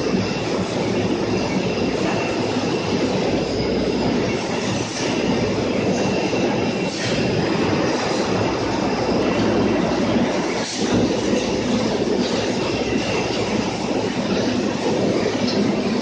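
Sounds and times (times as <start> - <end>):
conveyor machinery clatter: 0.0 - 16.0
thin high whine: 0.0 - 16.0.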